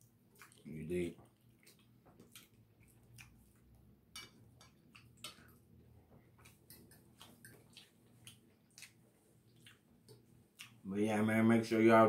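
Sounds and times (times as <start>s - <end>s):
person chewing: 0.3s - 10.8s.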